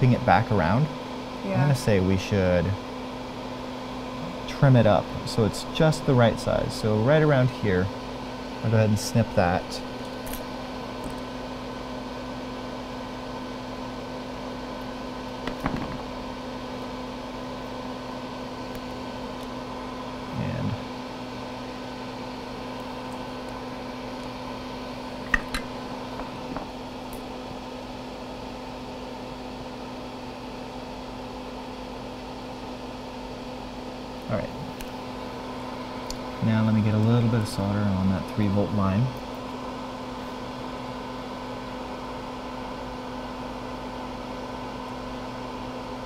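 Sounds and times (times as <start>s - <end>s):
machine hum: 0.0s - 46.0s.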